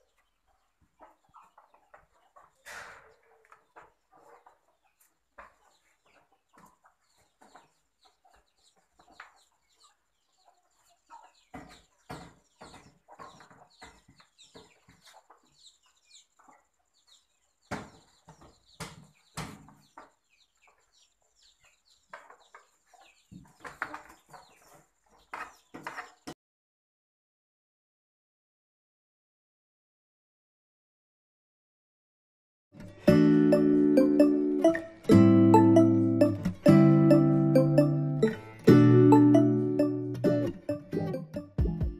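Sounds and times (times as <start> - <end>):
chickens clucking: 0.0 - 26.4, 32.8 - 41.6.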